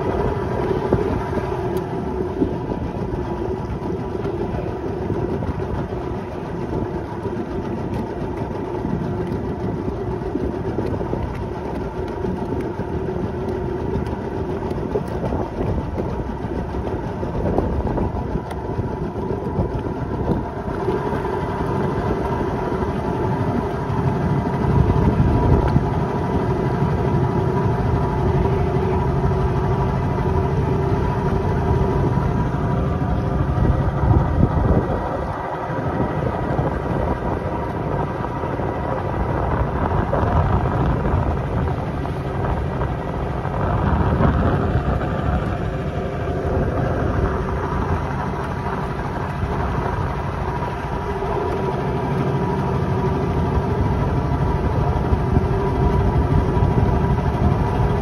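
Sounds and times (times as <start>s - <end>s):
boat engine humming: 0.0s - 58.0s
low rumble: 0.0s - 58.0s.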